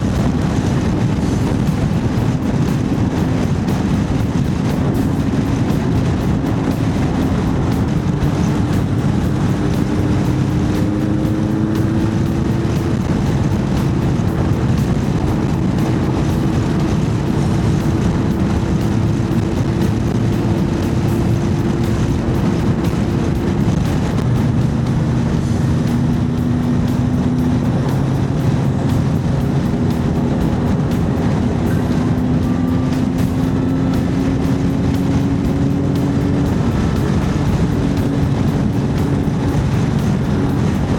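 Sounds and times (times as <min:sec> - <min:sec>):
motorcycle engine cruising: 0:00.0 - 0:40.9
wind rush: 0:00.0 - 0:40.9.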